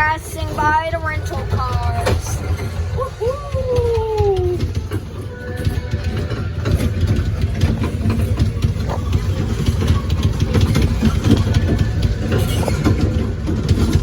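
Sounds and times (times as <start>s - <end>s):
ride-on train rumbling: 0.0s - 14.0s
train cars rattling and clacking: 0.0s - 14.0s.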